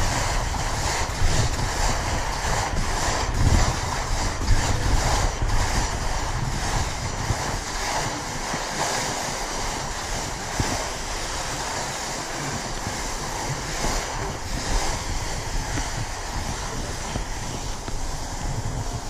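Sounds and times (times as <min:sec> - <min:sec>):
skis sliding over snow: 0:00.0 - 0:19.0
wind buffeting microphone: 0:00.0 - 0:19.0.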